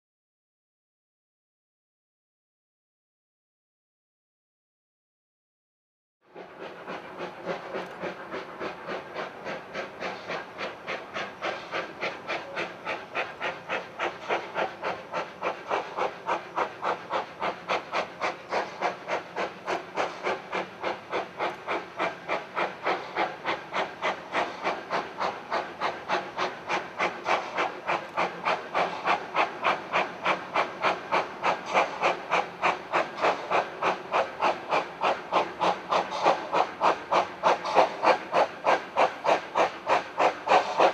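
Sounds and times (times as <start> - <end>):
steam locomotive chuffing: 6.3 - 40.9.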